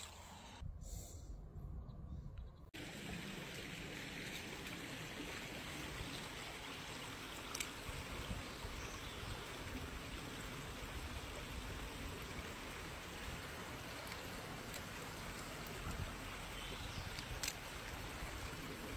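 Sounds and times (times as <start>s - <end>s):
creek water over stones: 2.8s - 18.9s.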